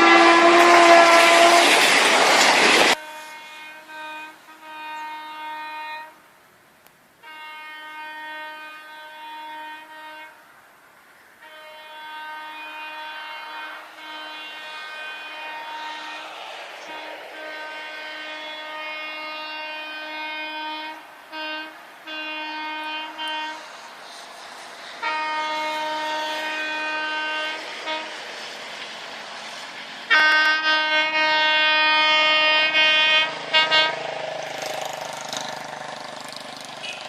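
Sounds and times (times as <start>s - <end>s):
train horn blasts: 0.0s - 2.1s, 2.9s - 6.3s, 7.2s - 10.6s, 11.4s - 28.6s, 29.4s - 37.0s.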